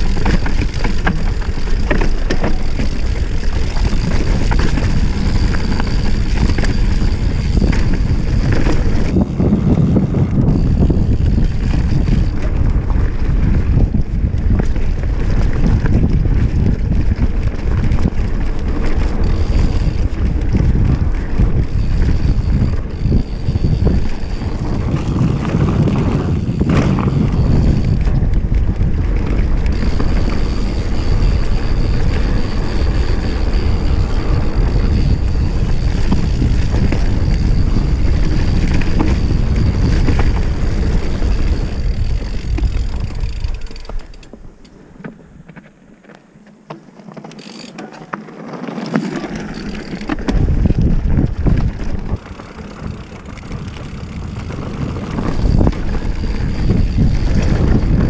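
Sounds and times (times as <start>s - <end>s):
wind buffeting microphone: 0.0s - 44.6s, 49.1s - 58.0s
bike rattling: 0.0s - 58.0s.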